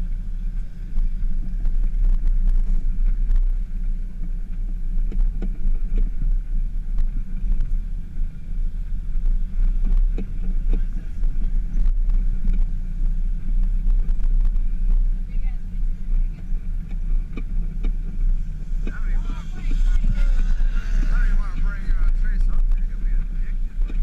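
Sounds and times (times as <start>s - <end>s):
vehicle rumbling over sand: 0.0s - 24.0s.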